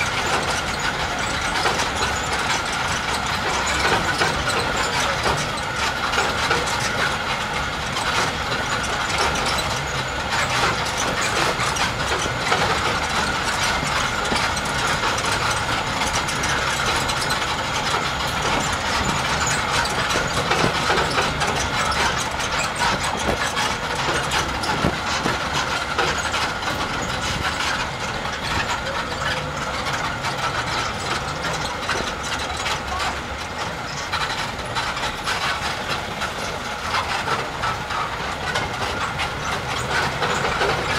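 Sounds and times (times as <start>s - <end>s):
low engine rumble: 0.0s - 40.9s
tram rattling and clattering: 0.0s - 40.9s.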